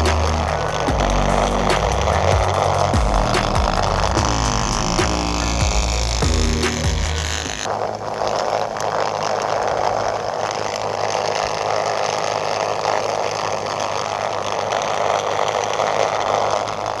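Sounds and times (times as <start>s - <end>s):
small electric motor whirring: 0.0s - 17.0s.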